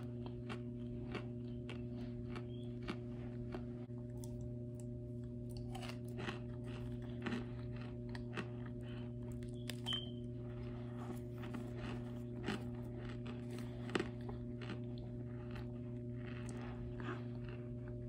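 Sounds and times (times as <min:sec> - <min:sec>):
cornstarch chunks crunching: 0:00.0 - 0:18.0
steady low hum: 0:00.0 - 0:18.0.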